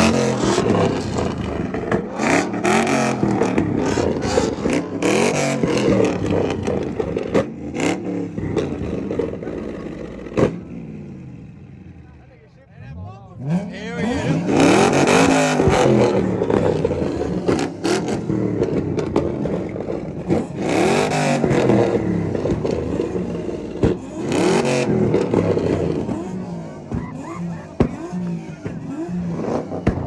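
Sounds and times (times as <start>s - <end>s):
car engine revving hard: 0.0s - 11.9s, 12.9s - 30.0s.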